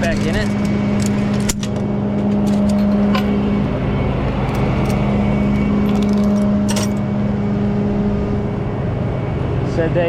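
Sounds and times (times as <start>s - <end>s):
tow truck engine humming: 0.0s - 10.0s.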